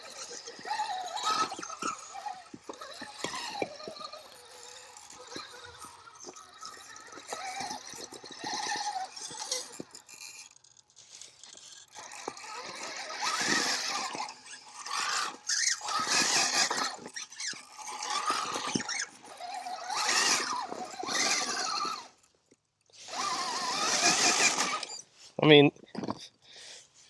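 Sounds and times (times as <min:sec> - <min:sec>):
electric motor and gears whining: 0:00.0 - 0:22.4, 0:23.0 - 0:25.1.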